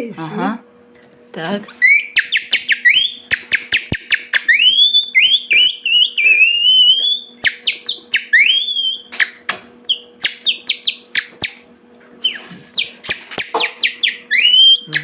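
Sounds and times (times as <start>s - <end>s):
whistled bird-like chirps and trills: 1.8s - 11.6s, 12.2s - 15.0s.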